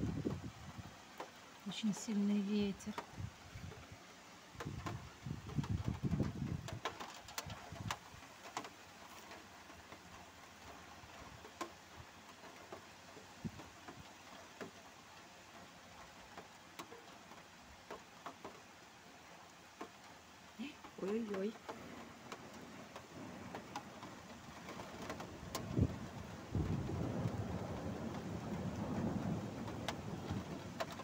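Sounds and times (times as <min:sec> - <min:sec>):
raindrops ticking: 0:00.0 - 0:31.0
steady rain: 0:00.0 - 0:31.0.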